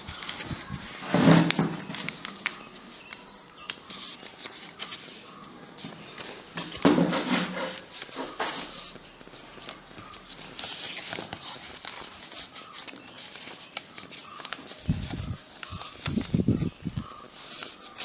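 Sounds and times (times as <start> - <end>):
paper rustling and crackling: 0.0 - 18.0.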